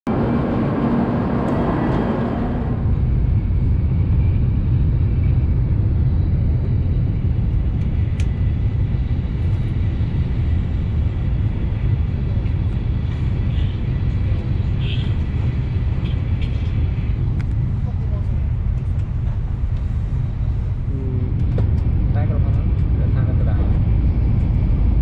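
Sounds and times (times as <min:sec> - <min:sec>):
train cabin low rumble: 0:00.1 - 0:25.0.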